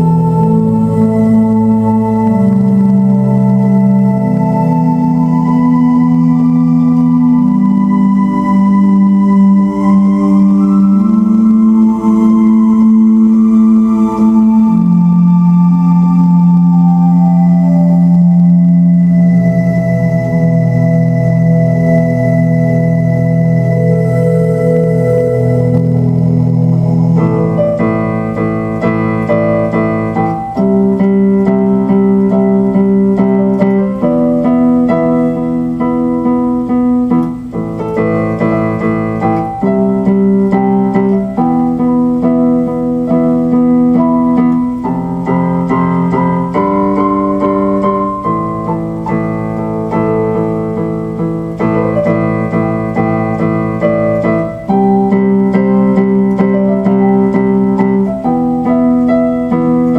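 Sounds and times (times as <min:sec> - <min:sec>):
electric piano chords: 0:00.0 - 0:59.9.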